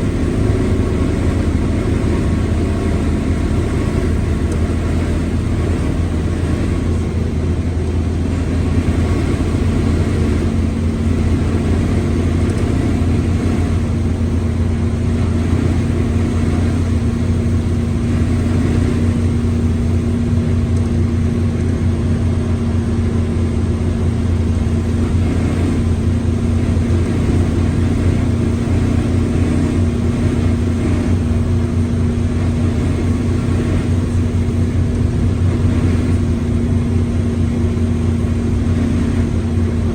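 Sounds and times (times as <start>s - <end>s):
diesel bus engine running: 0.0s - 39.9s
gearbox growling hum: 0.0s - 39.9s.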